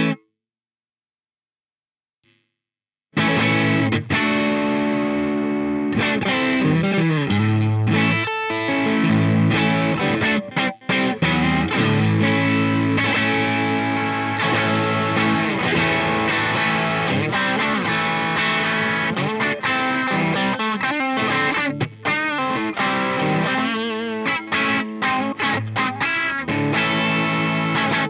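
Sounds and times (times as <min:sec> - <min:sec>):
overdriven electric guitar: 0:00.0 - 0:00.2, 0:03.2 - 0:28.0.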